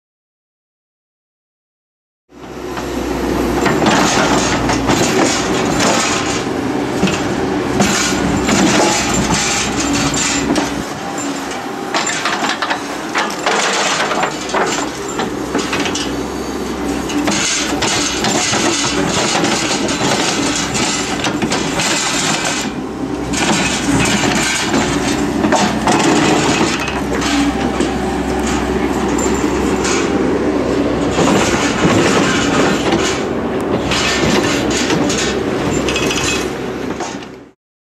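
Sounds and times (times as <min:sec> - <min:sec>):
excavator diesel engine running: 0:02.3 - 0:37.6.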